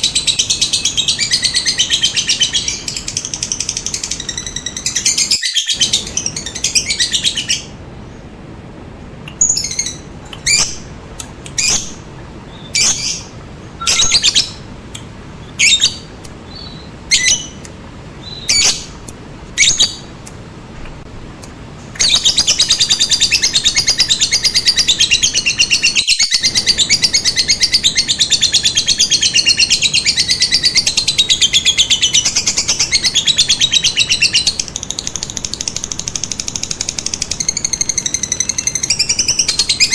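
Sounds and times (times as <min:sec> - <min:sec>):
lovebird chattering and chirping: 0:00.0 - 0:07.8, 0:09.3 - 0:20.4, 0:21.9 - 0:39.9.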